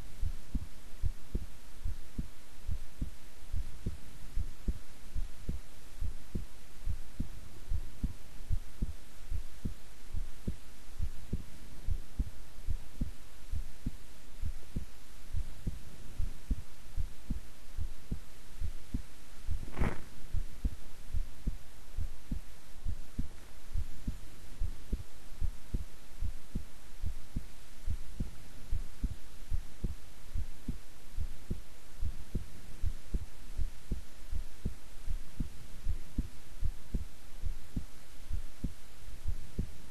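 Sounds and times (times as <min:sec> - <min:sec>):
heartbeat thumps: 0:00.2 - 0:39.8.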